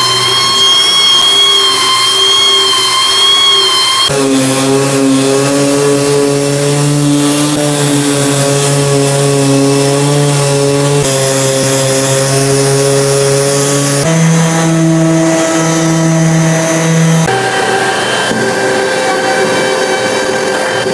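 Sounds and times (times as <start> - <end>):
electric sander whining: 0.0 - 20.9.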